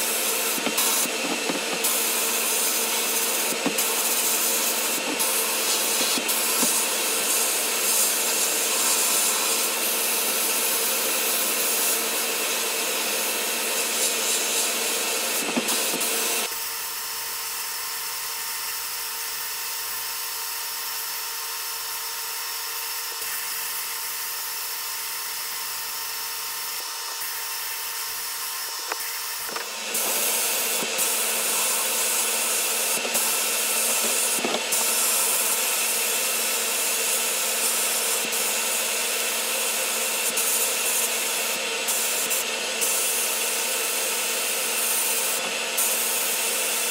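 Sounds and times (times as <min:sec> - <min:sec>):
sandblasting hiss: 0:00.0 - 0:16.6, 0:22.8 - 0:46.9.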